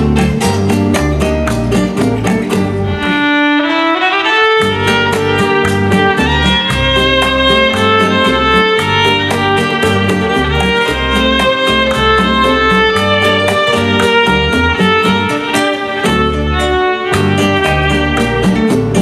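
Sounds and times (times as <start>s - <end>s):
backing track beat and bass: 0.0s - 19.0s
electric violin melody: 2.7s - 19.0s.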